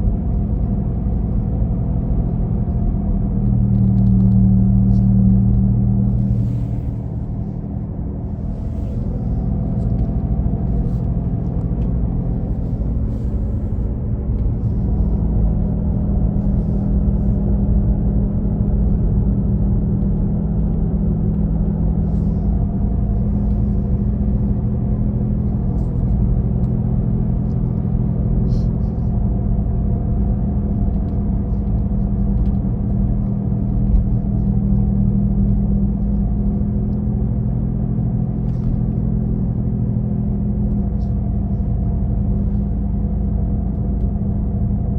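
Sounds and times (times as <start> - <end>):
low droning hum: 0.0 - 44.9.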